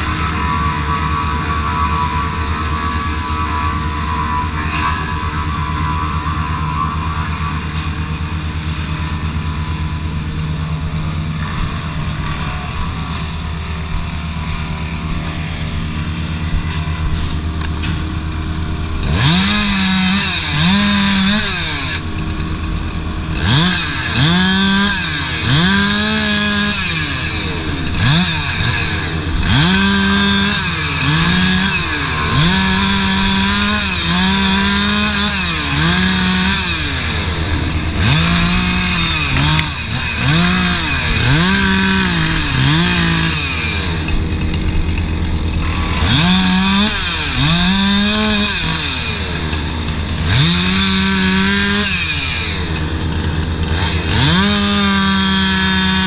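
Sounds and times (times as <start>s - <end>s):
chainsaw revving: 0.0s - 56.0s
low engine drone: 0.0s - 56.0s.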